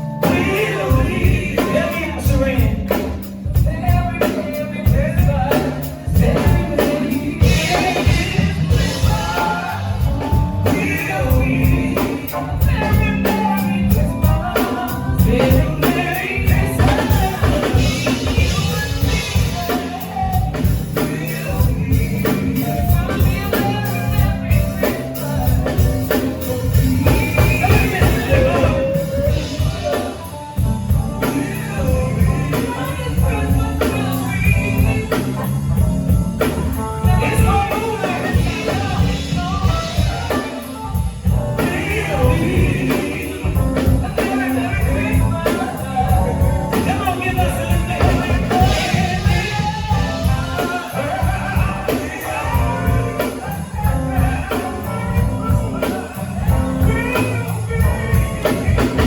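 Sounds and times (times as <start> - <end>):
gospel band with singer: 0.0 - 59.0.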